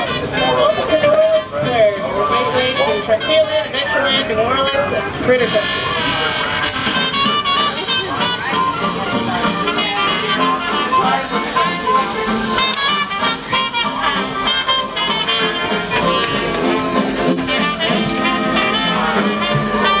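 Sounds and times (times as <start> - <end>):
brass jazz music: 0.0 - 20.0.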